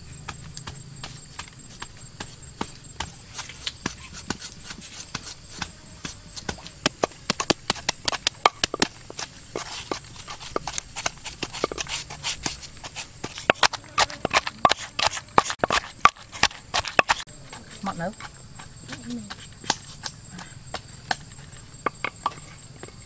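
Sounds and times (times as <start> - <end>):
sharp knocks of hard objects: 0.2 - 17.3, 18.2 - 23.0.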